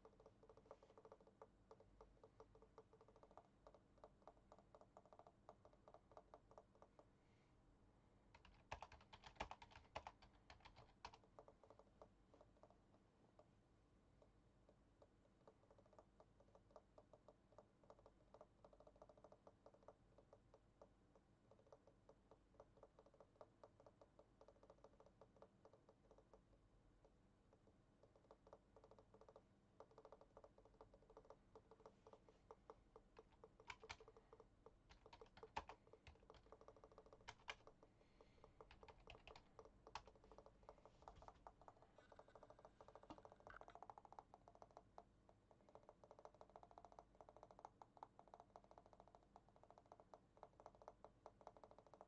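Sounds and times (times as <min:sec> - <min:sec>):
computer keyboard typing: 0:00.0 - 0:07.0, 0:08.3 - 0:12.8, 0:15.0 - 0:52.0.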